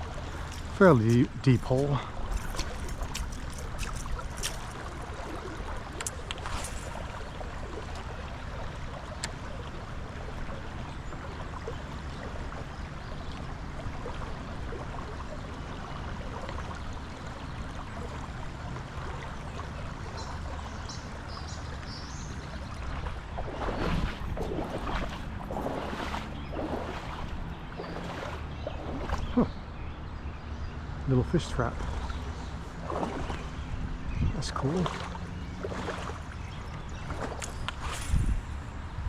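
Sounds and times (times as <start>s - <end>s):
creek rushing: 0.0s - 29.7s, 31.0s - 39.0s.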